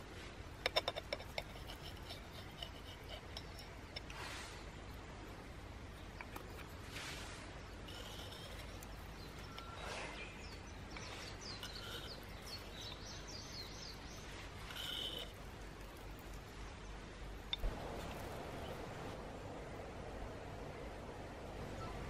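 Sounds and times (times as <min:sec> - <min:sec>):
outdoor background noise: 0:00.0 - 0:22.0
small birds chirping: 0:00.7 - 0:19.9.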